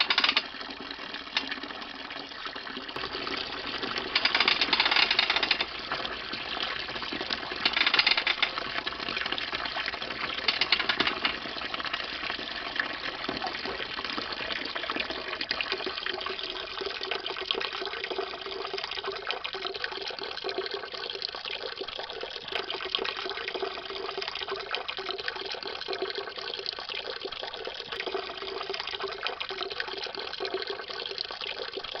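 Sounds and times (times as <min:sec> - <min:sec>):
grape juice pouring into a tub: 0:00.0 - 0:32.0.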